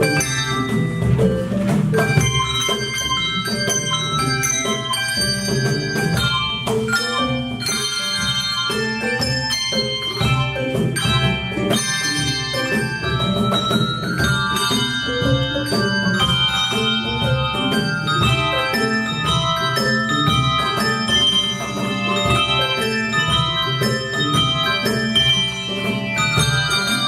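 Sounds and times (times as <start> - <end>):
handbell choir playing: 0.0 - 27.0
low bass bells: 0.0 - 27.0.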